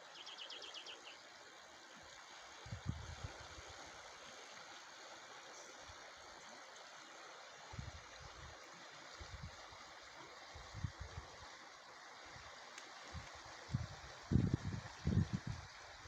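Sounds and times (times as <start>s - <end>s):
floodwater rushing in creek: 0.0s - 16.0s.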